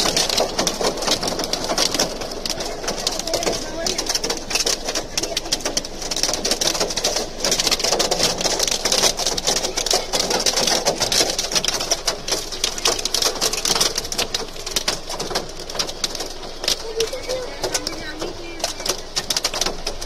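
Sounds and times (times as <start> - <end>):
hail pelting a car: 0.0 - 20.0.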